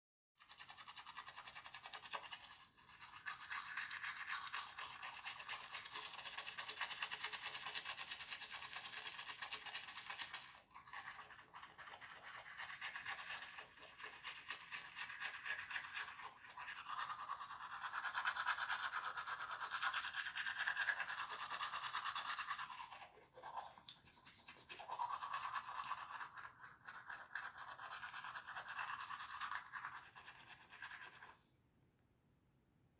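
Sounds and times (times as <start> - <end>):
toothbrush scrubbing teeth: 0.4 - 31.4.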